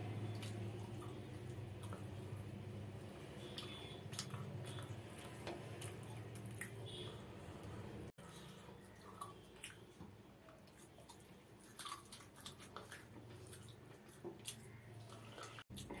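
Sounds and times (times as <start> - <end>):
fingers mixing wet food: 0.0 - 16.0
chewing and mouth smacking: 0.2 - 2.8, 3.4 - 7.0, 8.3 - 16.0.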